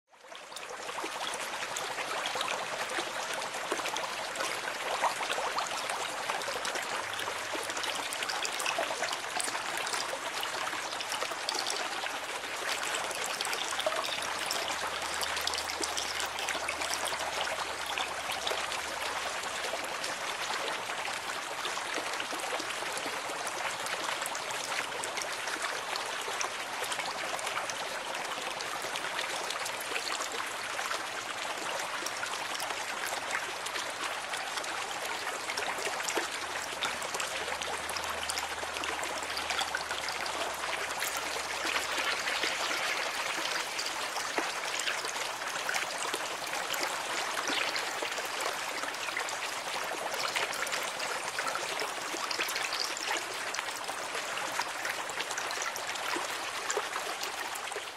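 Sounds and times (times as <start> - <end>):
aquarium water trickling: 0.3 - 57.9.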